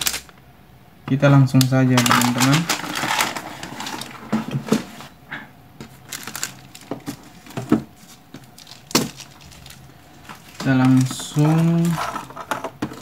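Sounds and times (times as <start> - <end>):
parts and tools clicking and rustling: 0.0 - 0.3, 1.9 - 5.1, 5.8 - 13.0.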